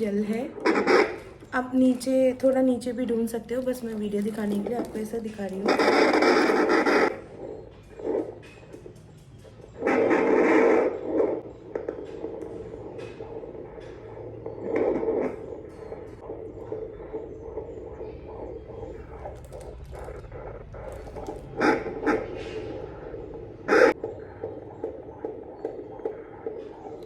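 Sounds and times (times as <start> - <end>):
fetal doppler hissing and crackling: 0.0 - 27.0.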